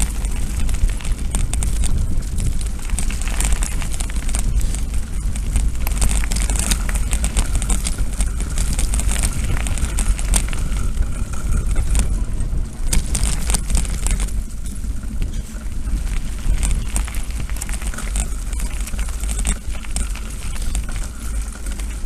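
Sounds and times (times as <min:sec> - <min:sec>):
bike clicks and rattles: 0:00.0 - 0:22.0
tyres rumbling on gravel: 0:00.0 - 0:22.0
wind on microphone: 0:00.0 - 0:22.0.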